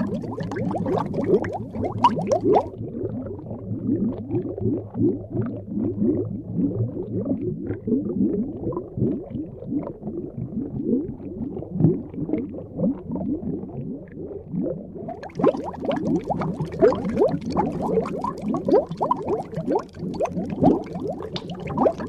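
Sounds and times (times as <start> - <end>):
underwater bubbling: 0.0 - 22.0.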